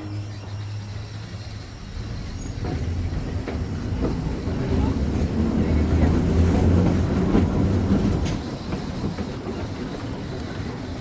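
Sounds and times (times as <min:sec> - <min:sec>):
trolley wheels rumbling on track: 0:00.0 - 0:11.0.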